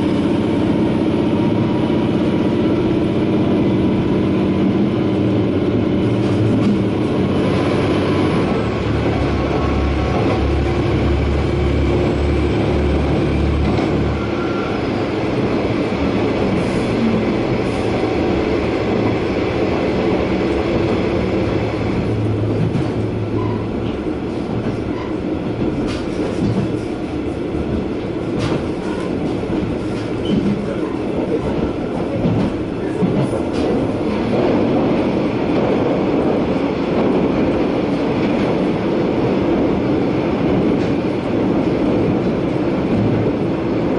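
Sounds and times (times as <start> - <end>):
railcar engine drone: 0.0 - 43.9
wheels rumbling on rail: 0.0 - 43.9.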